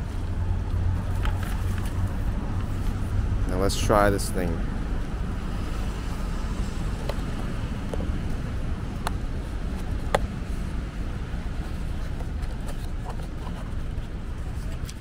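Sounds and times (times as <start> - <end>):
city street traffic rumble: 0.0 - 15.0
wind: 0.0 - 15.0.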